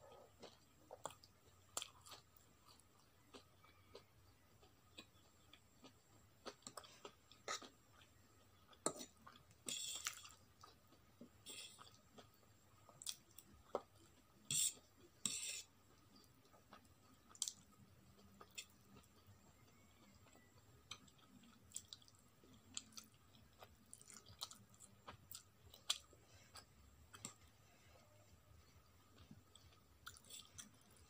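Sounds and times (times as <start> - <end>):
person chewing: 0.0 - 31.0.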